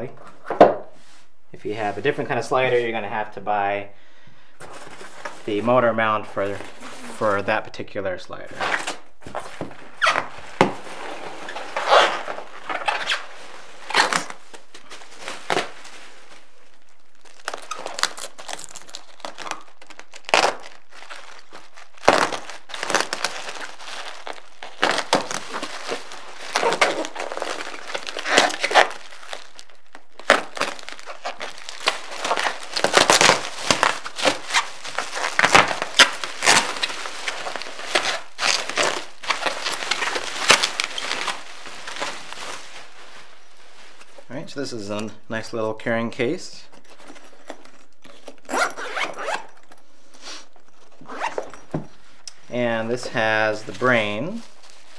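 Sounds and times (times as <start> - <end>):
plastic packing material crinkling: 4.6 - 7.6, 8.4 - 45.5, 46.2 - 54.9.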